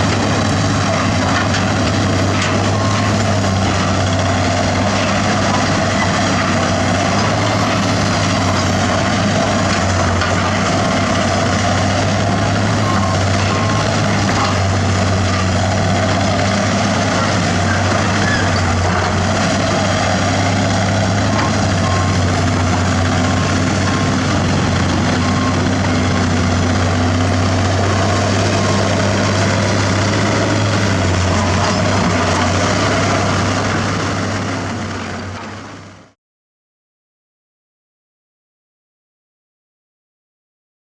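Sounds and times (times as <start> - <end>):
diesel machinery engine drone: 0.0 - 36.2.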